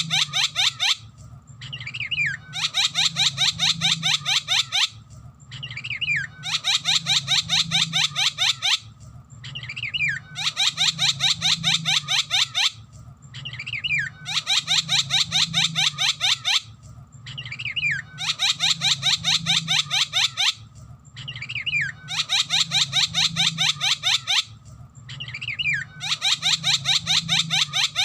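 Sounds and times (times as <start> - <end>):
myna bird singing: 0.0 - 28.0.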